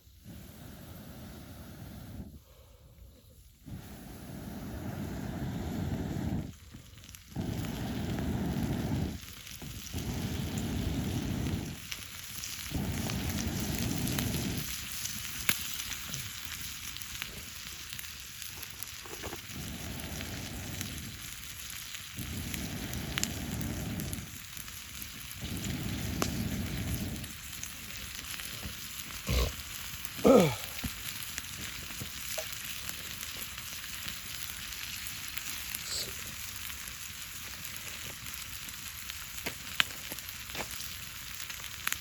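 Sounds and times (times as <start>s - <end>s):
burning wood crackling: 0.0s - 42.0s
food sizzling over campfire: 0.0s - 42.0s.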